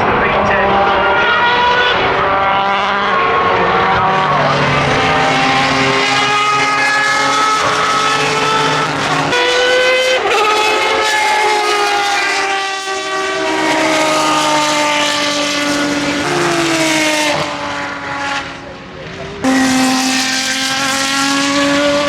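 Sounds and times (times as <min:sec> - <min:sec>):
racing engine at high revs: 0:00.0 - 0:22.0.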